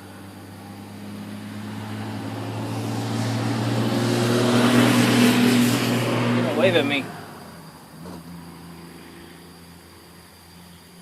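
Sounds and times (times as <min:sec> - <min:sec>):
vehicle passing by: 0:00.0 - 0:10.8.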